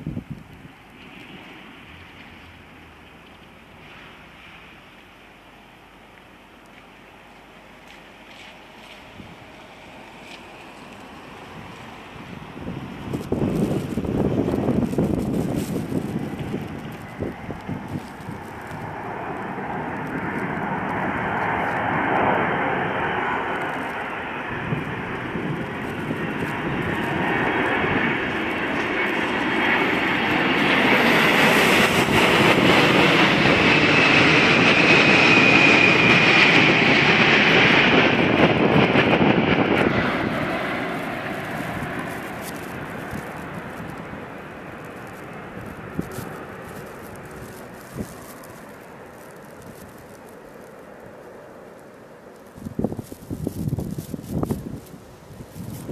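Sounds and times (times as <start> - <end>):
jet plane passing overhead: 0.0 - 55.9.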